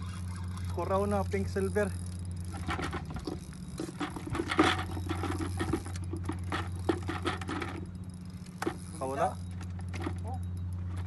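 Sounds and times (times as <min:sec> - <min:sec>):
fishing reel clicking and rattling: 0:00.0 - 0:11.0
steady low hum: 0:00.0 - 0:11.0.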